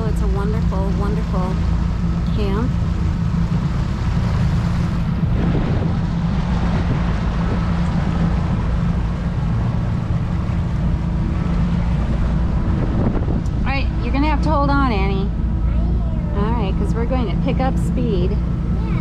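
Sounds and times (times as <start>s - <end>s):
motorboat engine droning: 0.0s - 19.0s
water noise: 0.0s - 19.0s
wind: 0.0s - 19.0s.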